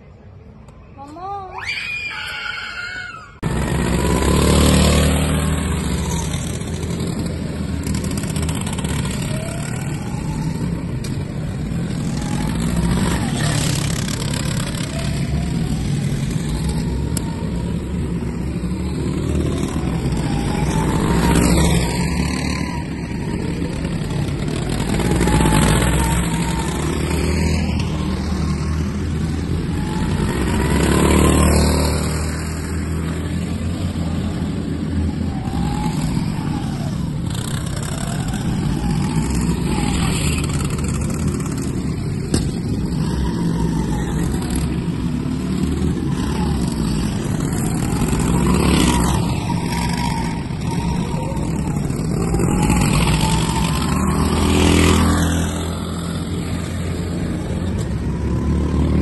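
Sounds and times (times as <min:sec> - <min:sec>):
go-kart motors revving: 0:01.0 - 0:59.0.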